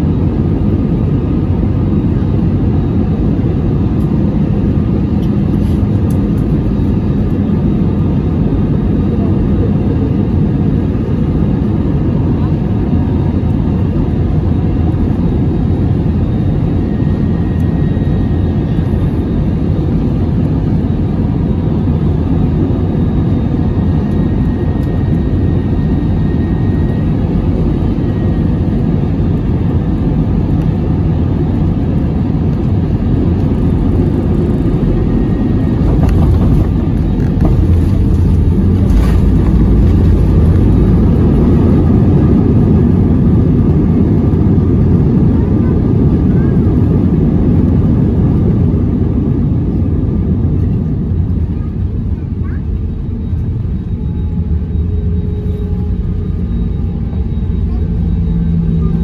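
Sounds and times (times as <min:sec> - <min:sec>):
jet engine and airflow rumble: 0:00.0 - 0:59.0.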